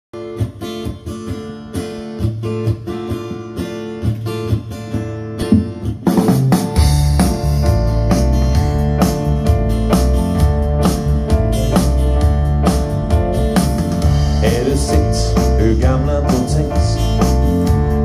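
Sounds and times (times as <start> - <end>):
bass guitar: 0.2 - 18.0
drums: 0.2 - 18.0
strummed guitar: 0.2 - 18.0.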